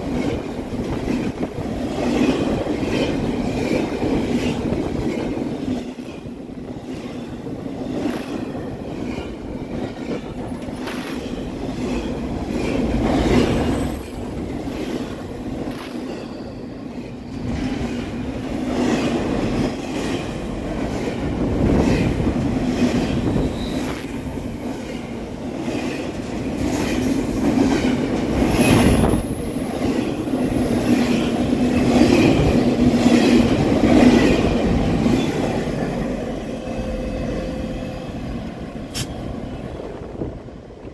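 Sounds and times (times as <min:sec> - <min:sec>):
freight train wheels clickety-clack: 0:00.0 - 0:37.8, 0:38.4 - 0:40.9.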